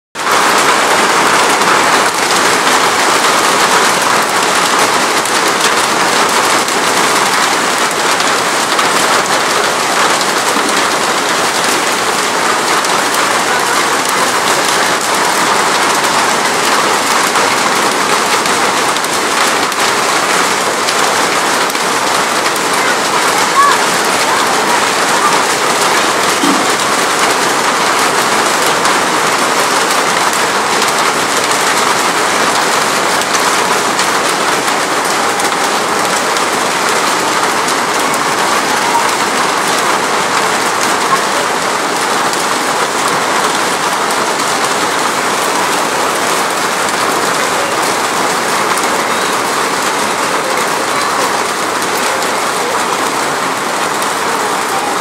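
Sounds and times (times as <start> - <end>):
heavy hail on wet pavement: 0.2 - 55.0.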